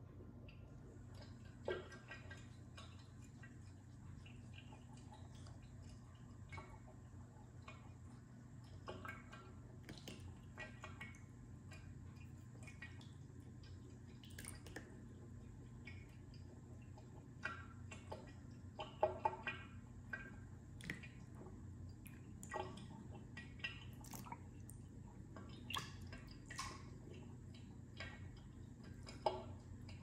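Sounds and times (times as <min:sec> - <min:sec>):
water dripping and tapping: 0:00.1 - 0:30.0.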